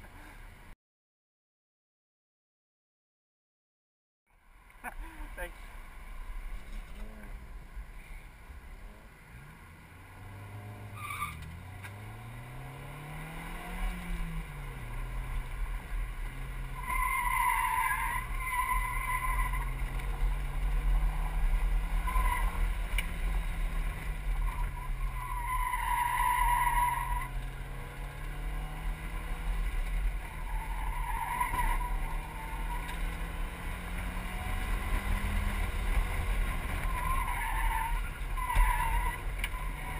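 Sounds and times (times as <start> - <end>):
car engine revving: 4.9 - 39.9.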